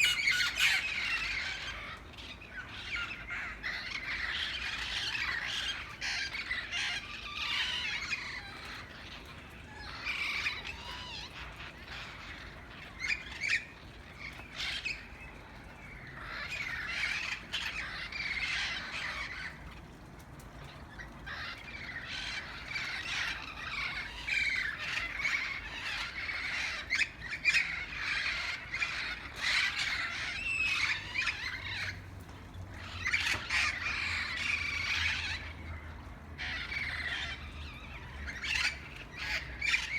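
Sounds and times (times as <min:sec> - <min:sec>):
parrots squawking and chattering: 0:00.0 - 0:39.9.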